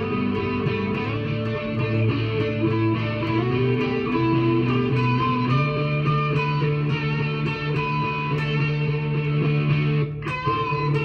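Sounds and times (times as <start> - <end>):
electric guitar picked notes: 0.0 - 11.0.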